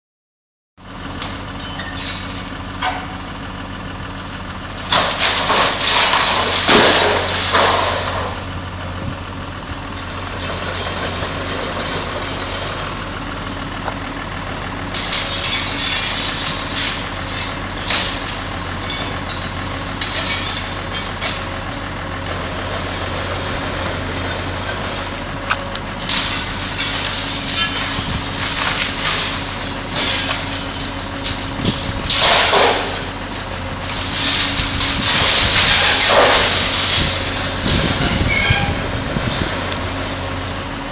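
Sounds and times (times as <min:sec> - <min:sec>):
excavator diesel engine running: 0:00.8 - 0:40.9
metal and glass crashing: 0:01.2 - 0:03.4, 0:04.8 - 0:08.4, 0:10.0 - 0:13.0, 0:14.9 - 0:25.2, 0:25.9 - 0:33.2, 0:33.8 - 0:40.6.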